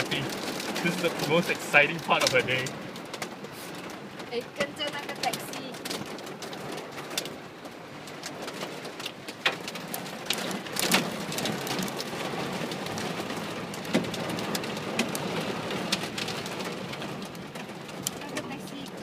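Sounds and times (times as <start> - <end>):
hailstones striking hard surfaces: 0.0 - 19.0
heavy rain: 0.0 - 19.0.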